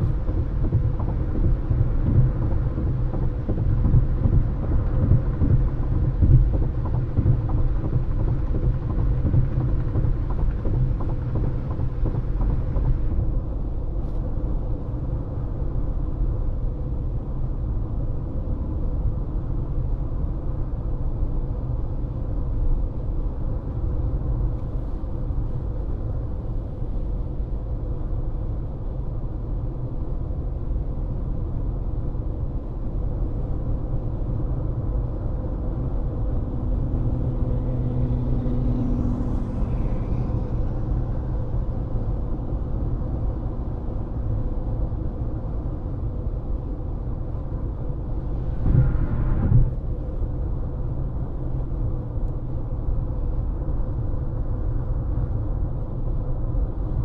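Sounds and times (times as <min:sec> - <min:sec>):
car road rumble: 0:00.0 - 0:57.0.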